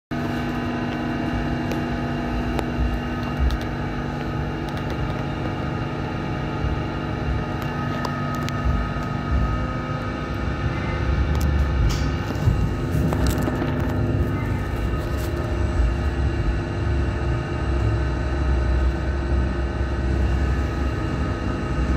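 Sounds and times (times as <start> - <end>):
low rumble: 0.1 - 21.9
train electrical hum: 0.1 - 21.9
fixed tones from onboard equipment: 0.2 - 21.9.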